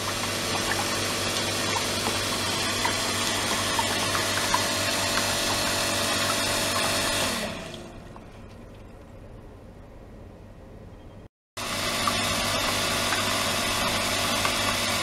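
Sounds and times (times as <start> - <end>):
pump motor humming: 0.0 - 8.9, 11.6 - 15.0.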